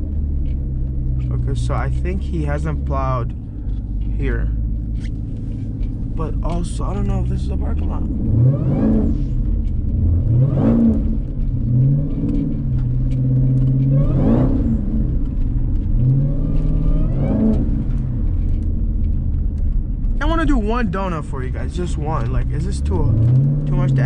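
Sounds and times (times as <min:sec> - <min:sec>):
car engine throttle blips: 0:00.0 - 0:24.0.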